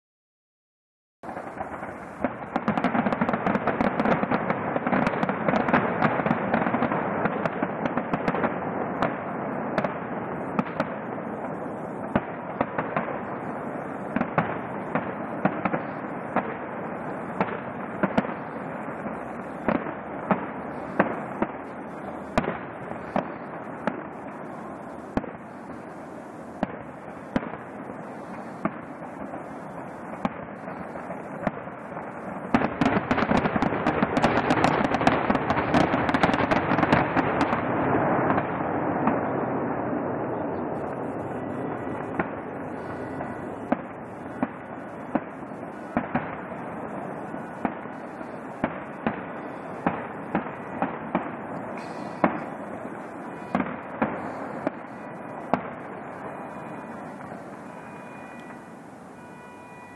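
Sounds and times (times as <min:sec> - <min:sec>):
fireworks crackle and bangs: 0:01.2 - 0:59.9.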